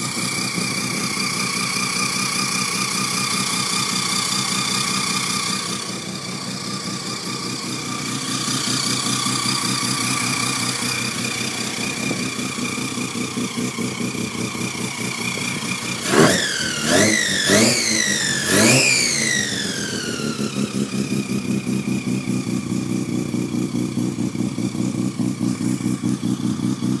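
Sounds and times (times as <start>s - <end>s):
rotary engine idling and revving: 0.0s - 27.0s.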